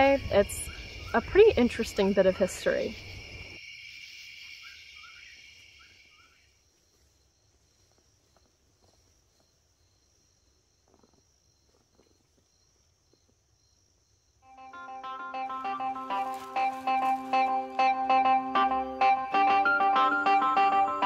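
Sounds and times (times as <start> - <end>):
insect chorus trilling: 0.0 - 19.2.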